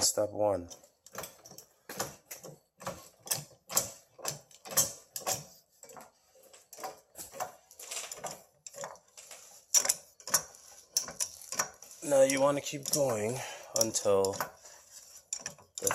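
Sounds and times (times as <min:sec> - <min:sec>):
floor jack clicking: 0:00.7 - 0:15.9.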